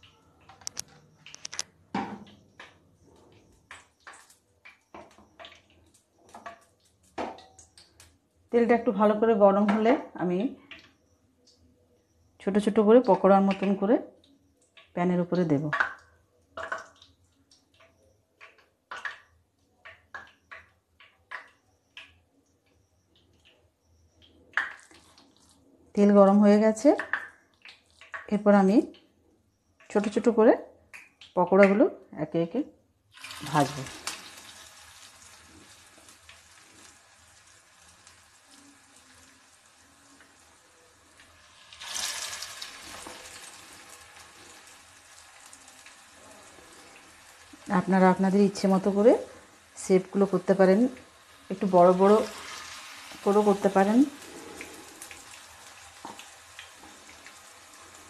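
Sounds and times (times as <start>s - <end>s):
oil crackling and popping in pan: 0.0s - 8.5s, 9.6s - 31.7s, 33.0s - 58.0s.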